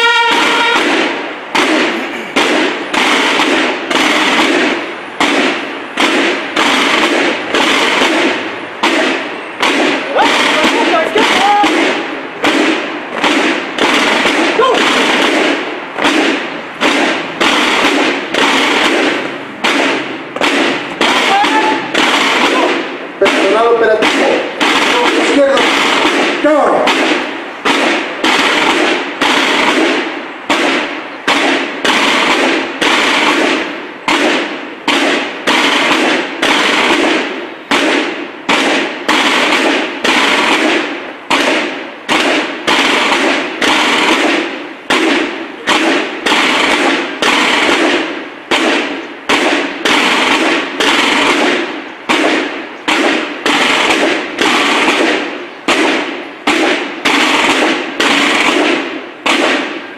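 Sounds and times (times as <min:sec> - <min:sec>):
marching snare drums: 0:00.0 - 0:59.9.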